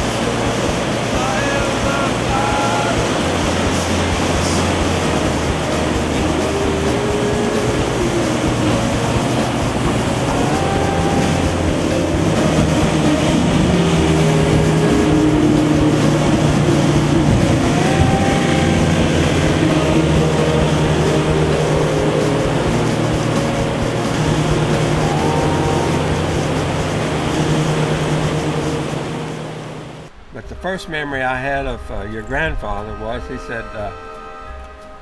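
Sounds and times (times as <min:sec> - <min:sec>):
motorboat engine running: 0:00.0 - 0:30.3.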